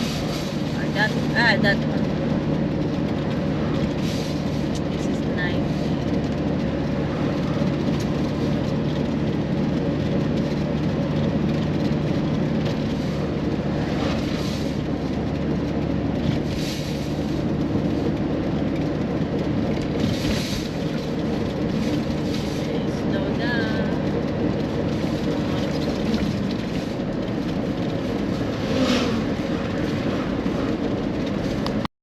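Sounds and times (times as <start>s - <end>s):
car cabin road and engine noise: 0.0s - 31.9s.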